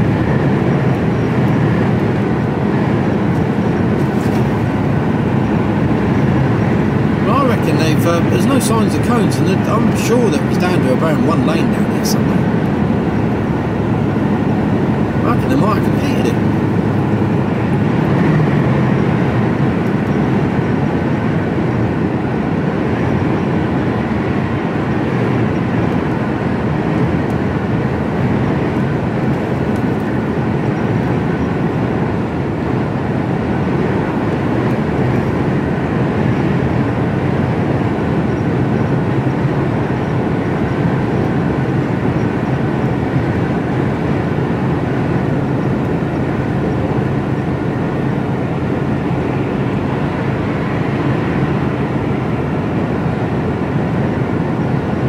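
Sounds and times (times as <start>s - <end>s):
lorry engine drone: 0.0s - 55.0s
road and tyre noise: 0.0s - 55.0s.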